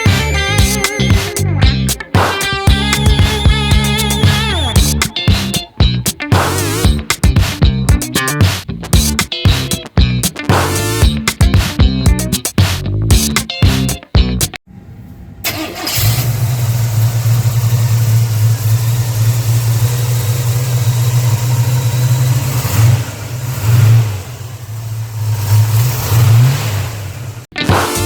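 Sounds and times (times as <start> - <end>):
engine rumbling and revving: 0.0 - 13.9, 15.8 - 27.4.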